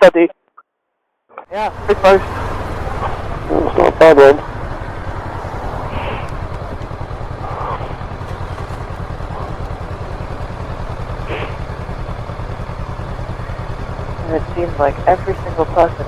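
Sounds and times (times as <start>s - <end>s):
motorcycle engine rumbling: 1.5s - 16.0s.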